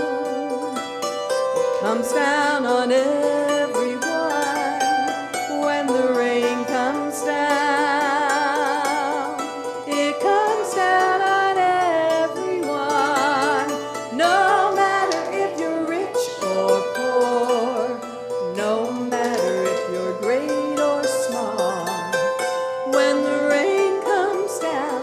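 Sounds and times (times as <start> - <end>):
hammered dulcimer: 0.0 - 25.0
held wavering melody notes: 0.0 - 25.0.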